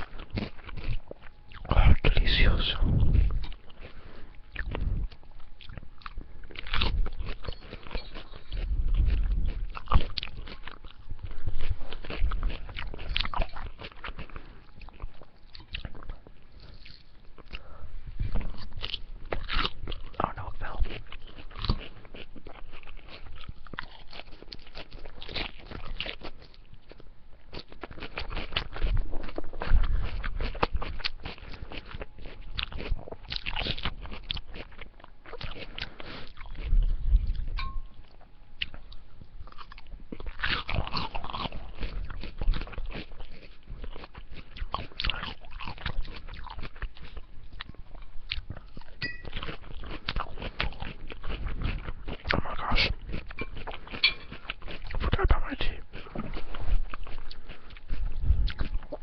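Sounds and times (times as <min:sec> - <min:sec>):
mouth chewing and crunching food: 0:00.0 - 0:59.0.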